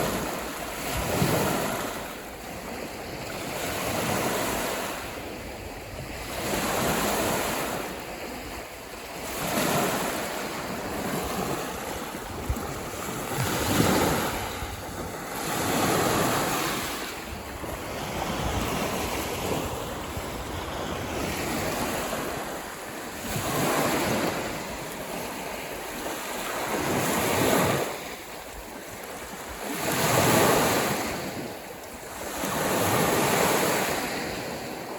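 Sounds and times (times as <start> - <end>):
waves washing ashore: 0.0 - 34.9
wind blowing: 0.0 - 34.9.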